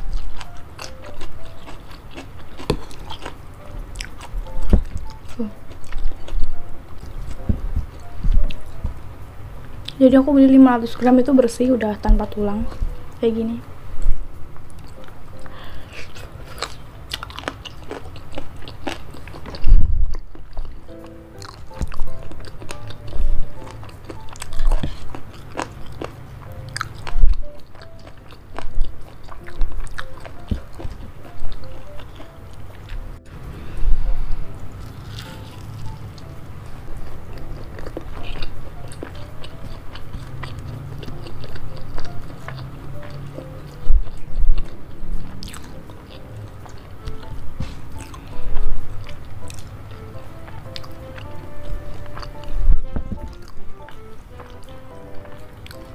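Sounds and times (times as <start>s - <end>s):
close chewing with crunches: 0.0s - 9.0s, 14.0s - 33.3s, 34.0s - 55.9s.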